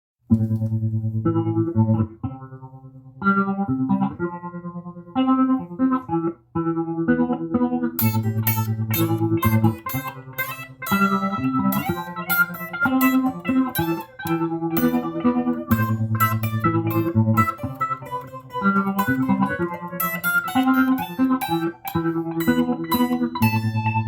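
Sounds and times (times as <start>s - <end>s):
electric guitar playing: 0.3s - 24.0s.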